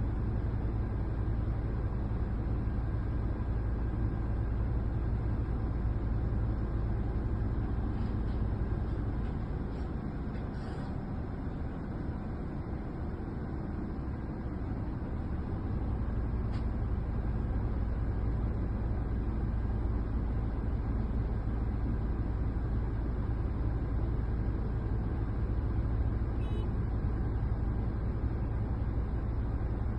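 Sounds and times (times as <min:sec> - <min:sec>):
heavy machinery engine rumbling: 0:00.0 - 0:29.9.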